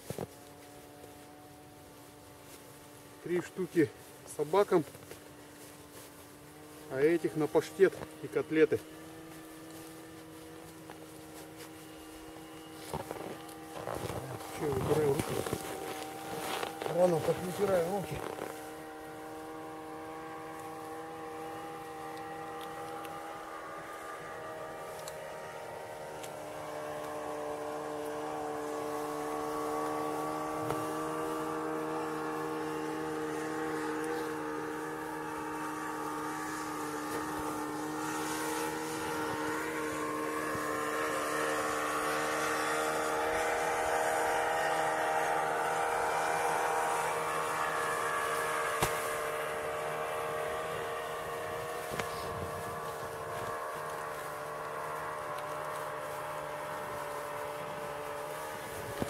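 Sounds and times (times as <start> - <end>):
handling rustle: 0.0 - 41.6, 45.7 - 59.0
distant engine humming: 0.0 - 59.0
steady mechanical drone: 0.0 - 59.0.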